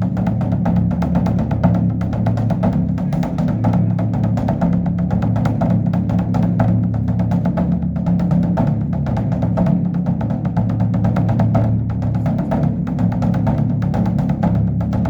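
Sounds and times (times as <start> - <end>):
large drum rapid roll: 0.0 - 15.0.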